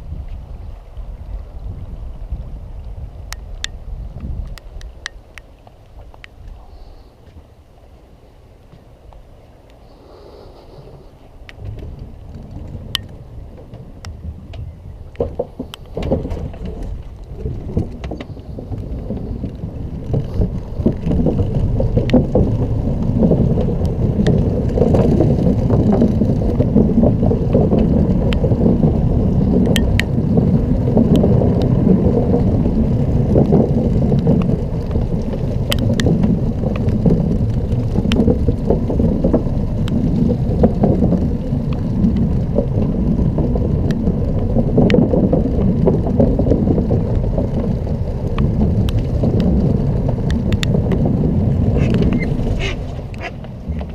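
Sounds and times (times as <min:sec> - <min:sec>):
electric scooter rolling over paving: 0:08.7 - 0:53.9.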